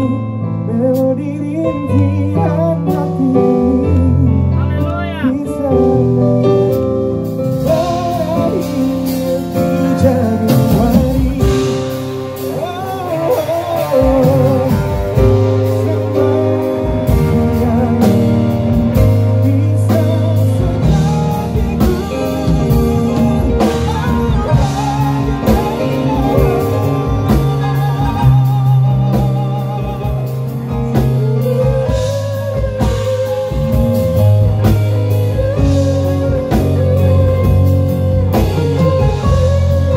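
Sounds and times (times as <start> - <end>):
bending melody line: 0.0 - 39.9
drums: 0.0 - 39.9
electric guitar: 0.0 - 39.9
keyboard chords: 0.0 - 39.9
low bass line: 0.0 - 39.9.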